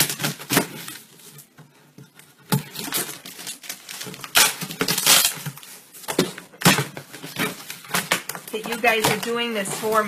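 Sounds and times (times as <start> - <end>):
cardboard rustling and scraping: 0.0 - 10.0.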